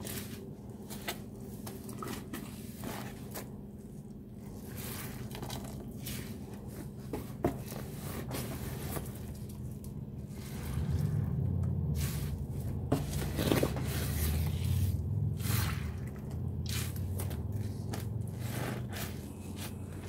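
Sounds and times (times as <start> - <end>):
wet sponges squelching: 0.0 - 20.0.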